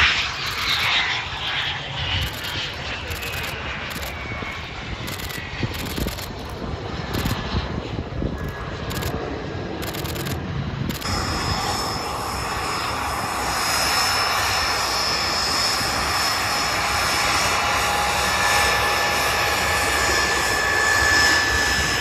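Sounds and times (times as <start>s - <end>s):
jet engine rush: 0.0s - 22.0s.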